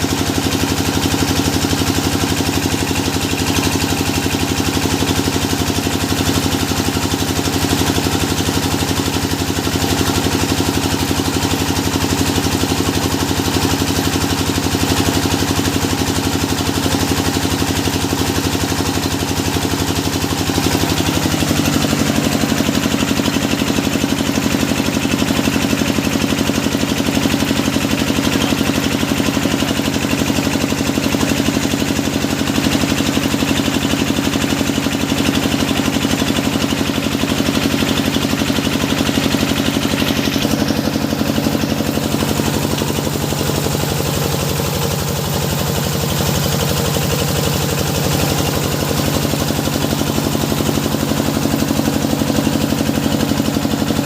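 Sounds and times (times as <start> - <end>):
drilling machine engine running: 0.0 - 54.0.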